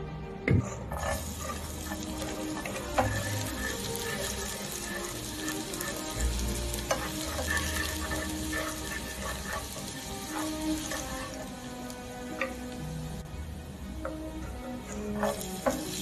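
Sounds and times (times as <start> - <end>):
spatula tapping and scraping pan: 0.5 - 12.8, 14.0 - 16.0
aromatics sizzling in hot oil: 0.6 - 16.0.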